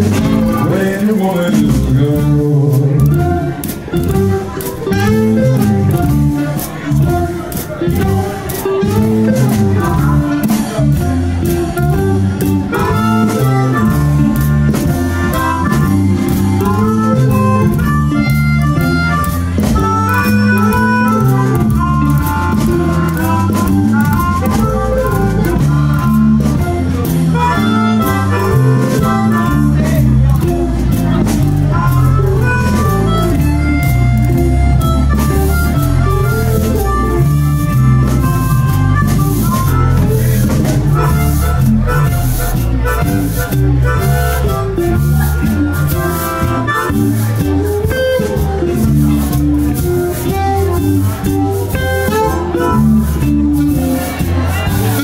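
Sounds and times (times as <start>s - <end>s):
blues band playing: 0.0s - 55.0s
saxophone lead line: 0.0s - 55.0s.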